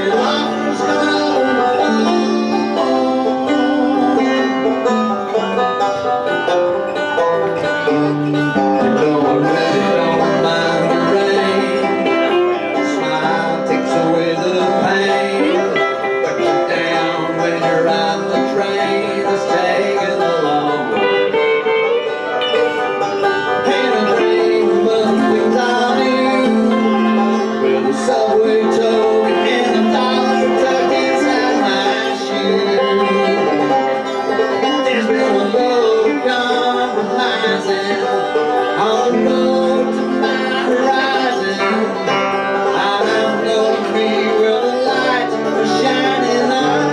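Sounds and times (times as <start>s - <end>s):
banjo rolls: 0.0s - 46.9s
electric guitar playing: 0.0s - 46.9s.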